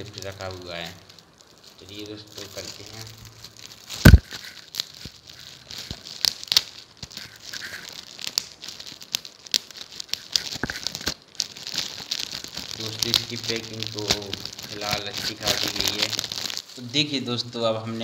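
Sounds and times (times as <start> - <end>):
wrapping paper crinkling and tearing: 0.0 - 18.0.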